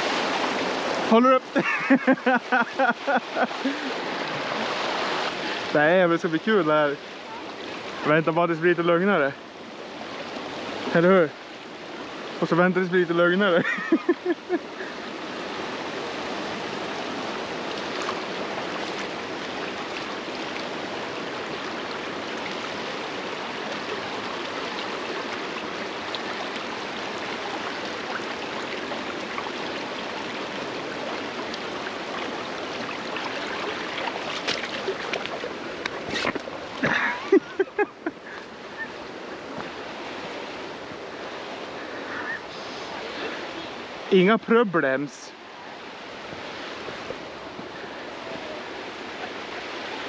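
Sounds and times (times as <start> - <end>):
water rushing in rapids: 0.0 - 50.0.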